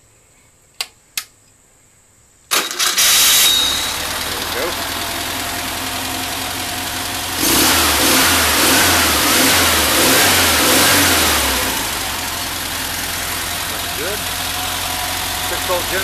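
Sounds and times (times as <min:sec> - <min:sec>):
car engine idling and revving: 0:03.0 - 0:16.0.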